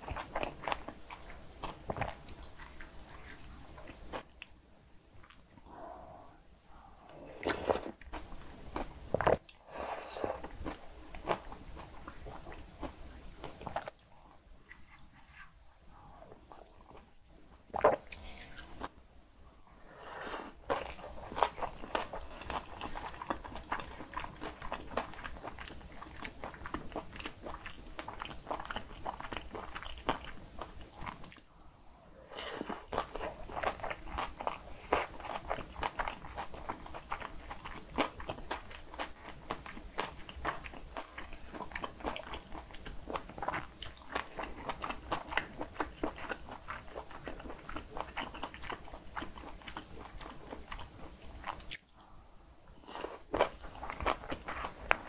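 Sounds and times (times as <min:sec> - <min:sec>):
wet chewing and crunching: 0:00.0 - 0:04.6, 0:07.3 - 0:15.3, 0:20.6 - 0:31.5, 0:32.6 - 0:52.1, 0:52.8 - 0:55.0.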